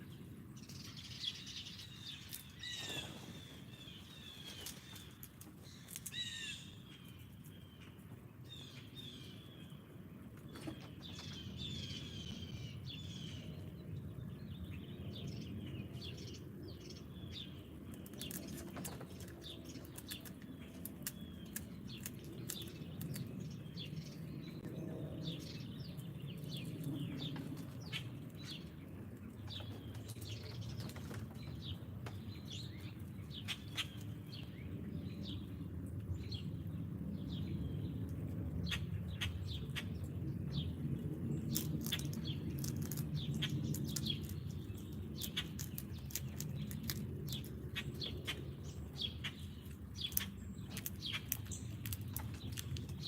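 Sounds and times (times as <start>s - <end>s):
low outdoor rumble: 0.0s - 53.0s
songbirds chirping: 0.0s - 53.0s.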